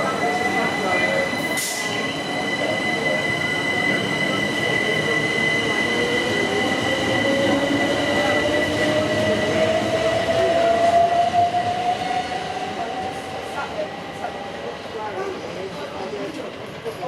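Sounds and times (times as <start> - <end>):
train high whine: 0.0 - 15.6
train wheels on track: 0.0 - 17.0.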